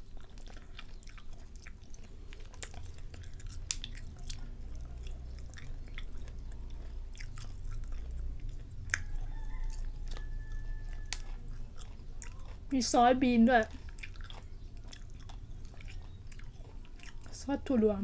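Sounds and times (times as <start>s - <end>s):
person chewing: 0.0s - 17.5s.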